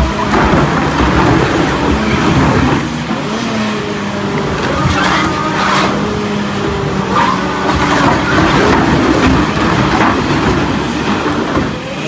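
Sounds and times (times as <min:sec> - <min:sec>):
tire shredder machine running: 0:00.0 - 0:12.0.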